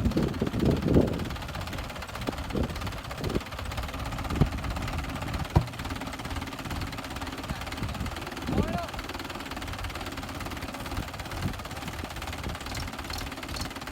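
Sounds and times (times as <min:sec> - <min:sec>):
tractor engine running: 0:00.0 - 0:13.9.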